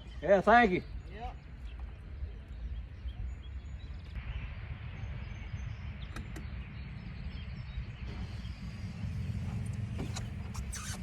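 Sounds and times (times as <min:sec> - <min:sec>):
steady low rumble: 0:00.9 - 0:10.7.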